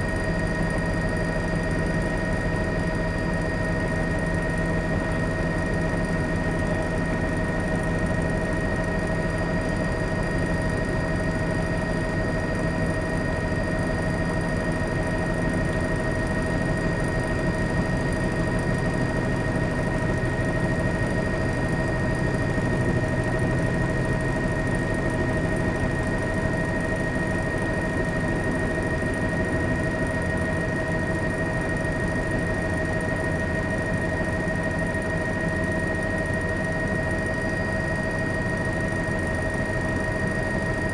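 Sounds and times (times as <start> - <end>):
engine drone with whining tones: 0.0 - 40.9.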